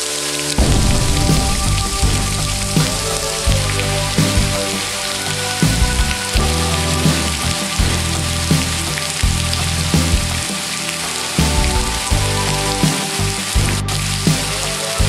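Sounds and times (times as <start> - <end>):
background music of held chords: 0.0 - 15.0
steady rain falling: 0.0 - 15.0.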